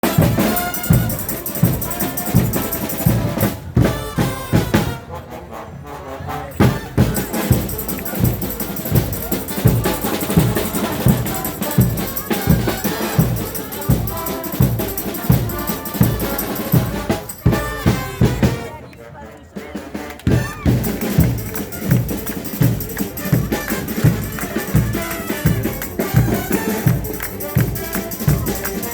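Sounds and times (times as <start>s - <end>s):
brass band with drums: 0.0s - 28.9s.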